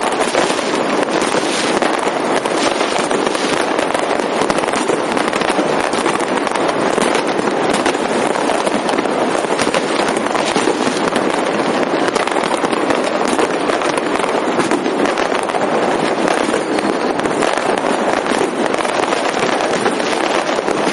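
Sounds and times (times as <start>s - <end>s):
firecrackers crackling: 0.0s - 20.9s.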